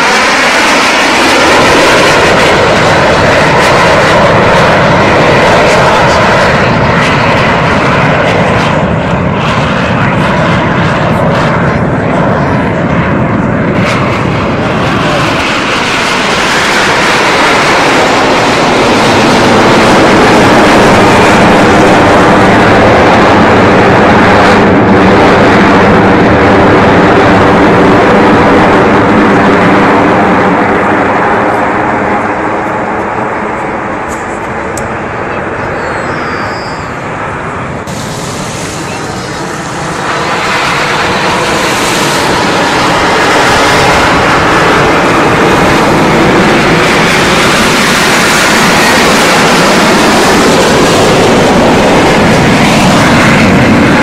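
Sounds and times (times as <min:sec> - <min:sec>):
jet aircraft flying over: 0:00.0 - 0:54.0.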